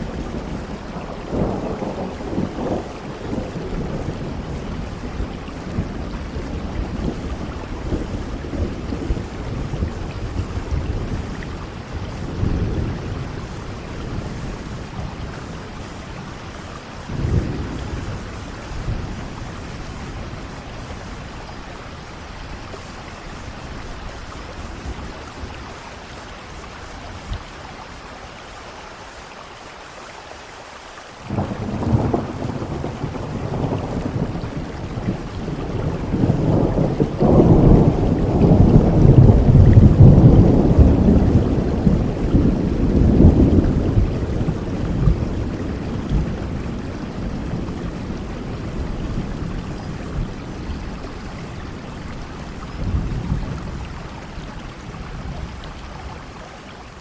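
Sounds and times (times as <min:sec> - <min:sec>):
thunder rumbling: 0:00.0 - 0:27.3, 0:31.3 - 0:56.4
steady rain: 0:00.0 - 0:57.0.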